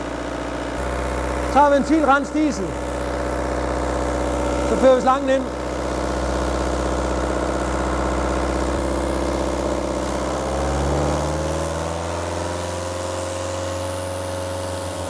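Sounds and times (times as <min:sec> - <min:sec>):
diesel engine running at raised revs: 0:00.0 - 0:15.0.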